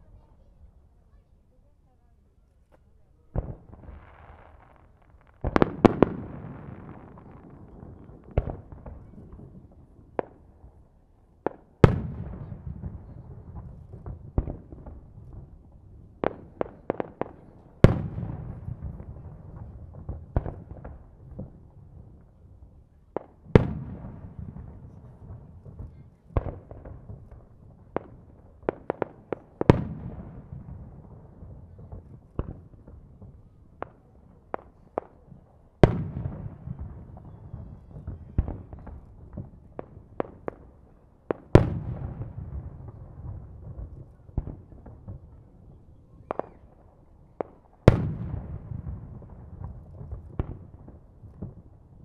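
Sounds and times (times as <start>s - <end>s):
small firework cracks: 2.7s - 52.0s.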